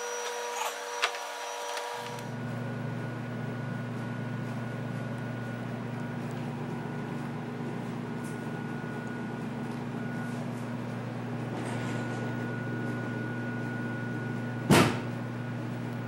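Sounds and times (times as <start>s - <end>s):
low electrical hum with whine: 0.0s - 16.0s.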